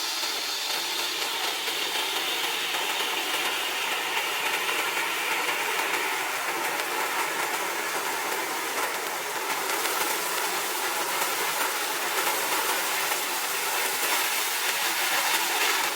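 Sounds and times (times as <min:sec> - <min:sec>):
firework fountain hissing and crackling: 0:00.0 - 0:15.9.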